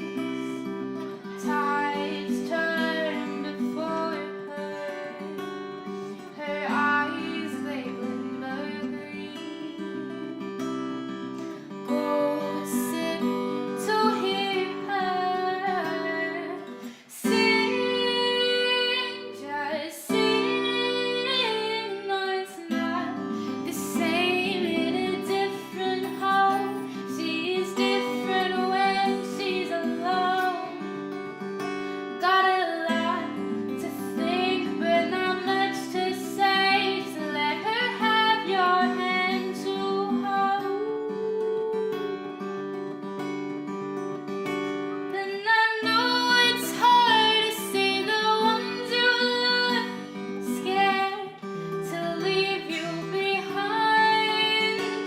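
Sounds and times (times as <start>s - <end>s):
woman singing: 0.0s - 43.1s, 44.9s - 55.0s
strummed acoustic guitar: 0.0s - 55.0s.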